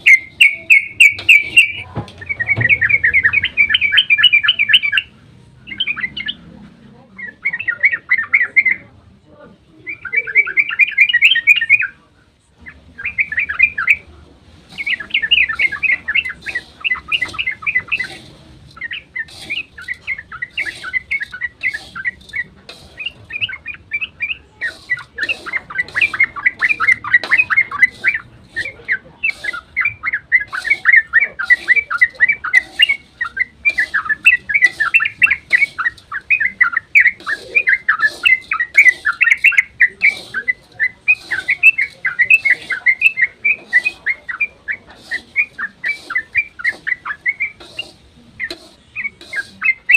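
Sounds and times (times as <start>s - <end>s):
bulbul singing rolling chatter: 0.0s - 49.9s.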